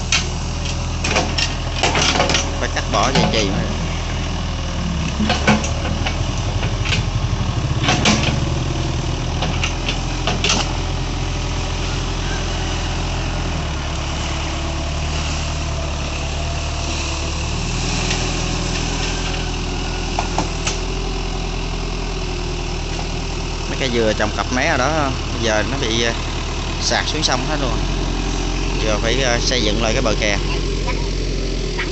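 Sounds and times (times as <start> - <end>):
excavator diesel engine: 0.0 - 31.9
hydraulic bucket working in water: 0.0 - 31.9.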